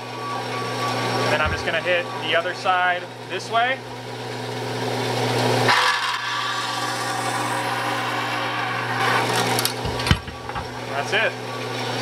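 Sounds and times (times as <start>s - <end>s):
bandsaw motor hum: 0.0s - 12.0s.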